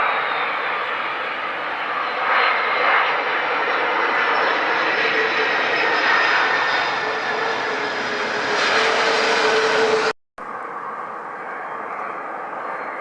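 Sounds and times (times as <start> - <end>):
airplane engines running: 0.0 - 13.0.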